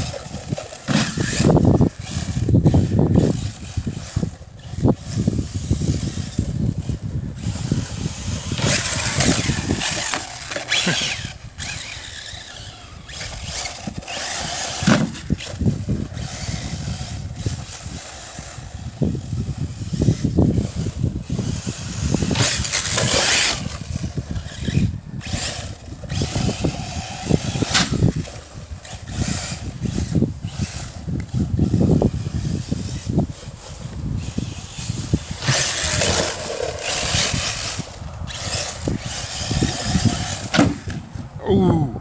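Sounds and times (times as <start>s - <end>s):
rc car electric motor revving: 0.0s - 41.8s.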